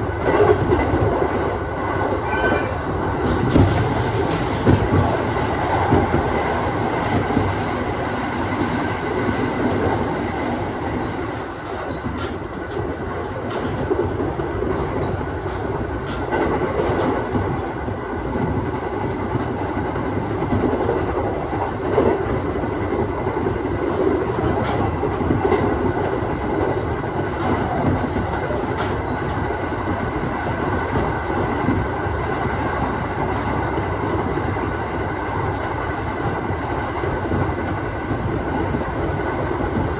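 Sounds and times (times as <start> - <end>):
train rumble and hum: 0.0 - 39.9.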